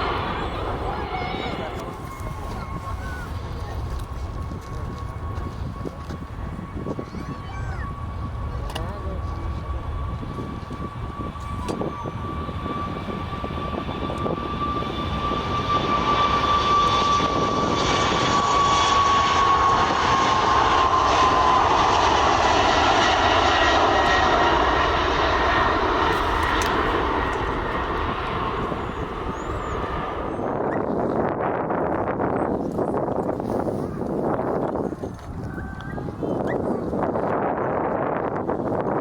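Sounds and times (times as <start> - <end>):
airliner engines passing: 0.0 - 39.0.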